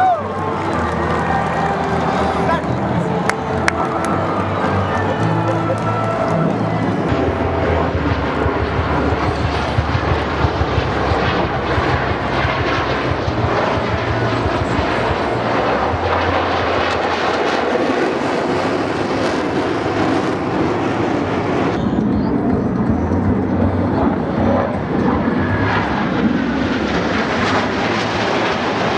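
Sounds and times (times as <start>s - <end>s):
jet engines rushing overhead: 0.0s - 28.9s.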